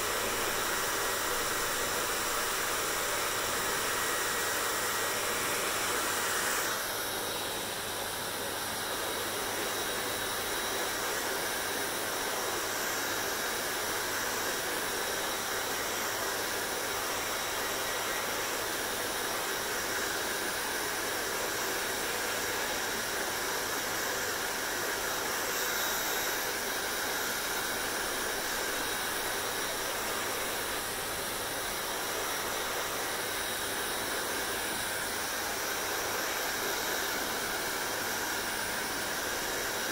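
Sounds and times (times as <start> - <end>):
hair dryer rushing hiss: 0.0 - 39.9.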